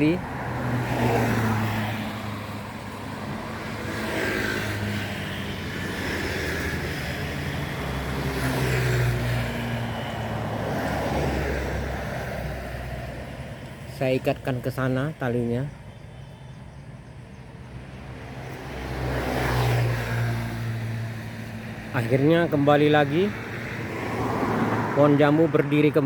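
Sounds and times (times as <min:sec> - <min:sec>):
traffic engines passing: 0:00.0 - 0:26.0.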